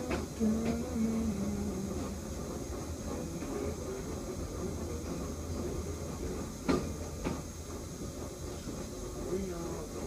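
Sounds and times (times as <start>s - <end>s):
train rumbling on track: 0.0s - 10.0s
train wheels clacking: 0.0s - 10.0s.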